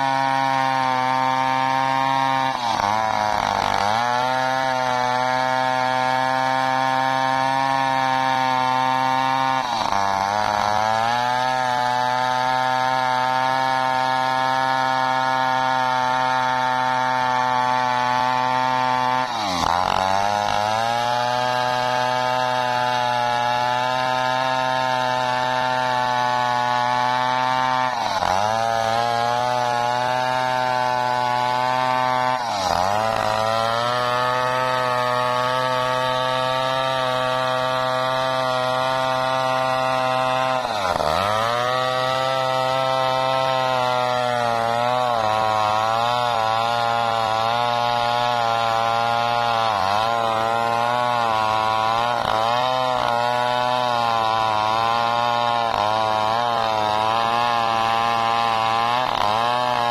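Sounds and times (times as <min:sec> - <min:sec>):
chainsaw ripping log: 0:00.0 - 0:59.9.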